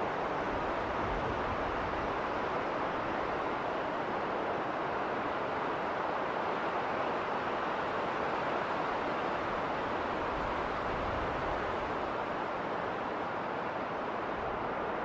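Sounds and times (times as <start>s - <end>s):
wind rushing in snowstorm: 0.0s - 15.0s.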